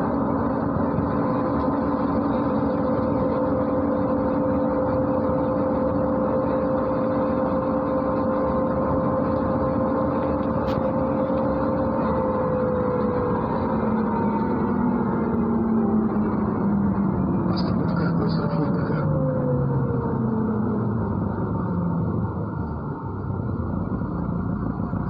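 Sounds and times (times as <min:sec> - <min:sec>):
bus engine hum and whine: 0:00.0 - 0:25.0.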